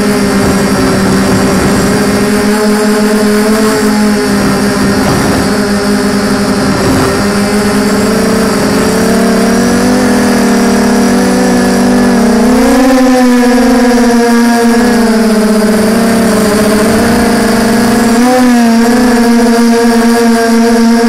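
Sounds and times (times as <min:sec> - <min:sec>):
quadcopter motors buzzing: 0:00.0 - 0:21.0.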